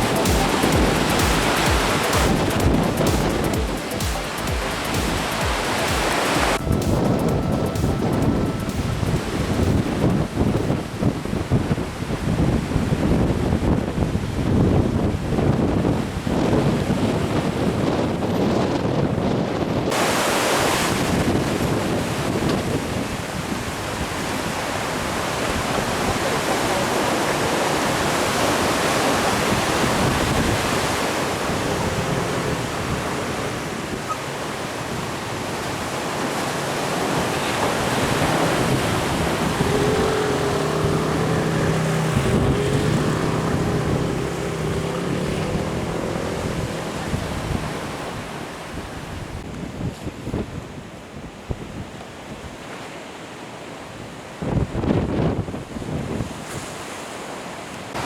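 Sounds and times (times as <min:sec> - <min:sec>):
sea surf washing ashore: 0:00.0 - 0:58.0
wind buffeting microphone: 0:05.6 - 0:52.7, 0:54.0 - 0:56.8.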